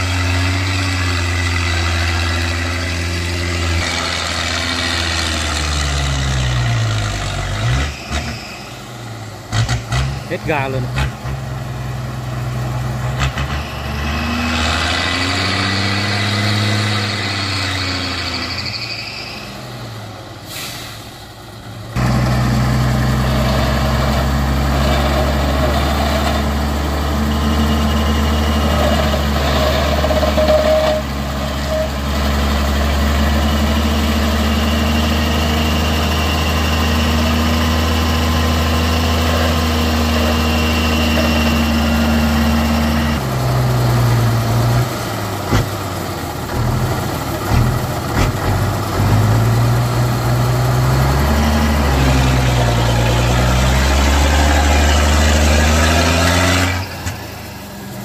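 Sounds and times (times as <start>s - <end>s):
heavy vehicle engine working hard: 0.0s - 58.0s.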